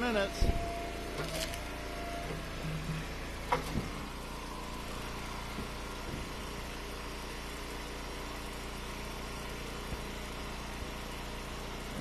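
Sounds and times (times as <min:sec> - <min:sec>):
firewood splitter engine running: 0:00.0 - 0:12.0.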